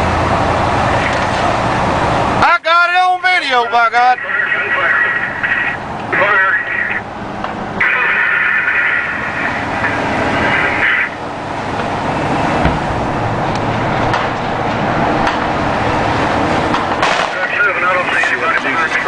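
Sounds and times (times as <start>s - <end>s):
truck engine and road noise: 0.0s - 19.0s.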